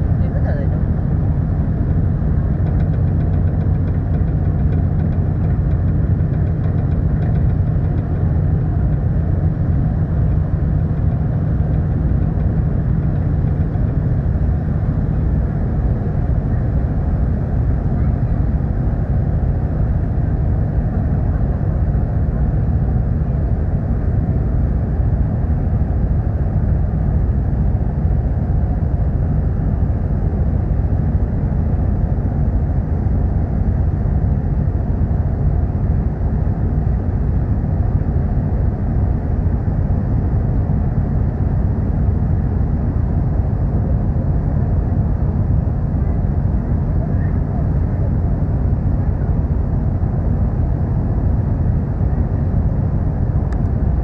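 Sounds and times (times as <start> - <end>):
ferry engine rumble: 0.0 - 54.0.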